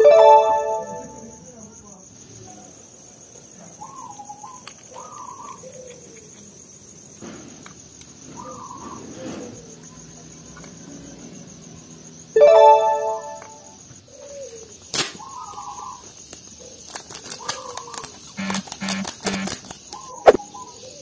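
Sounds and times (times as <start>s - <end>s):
insect trilling: 0.9s - 21.0s.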